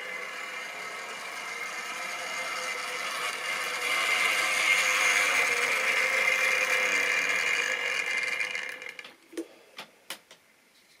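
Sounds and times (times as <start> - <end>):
small electric motor whirring: 0.0 - 9.2.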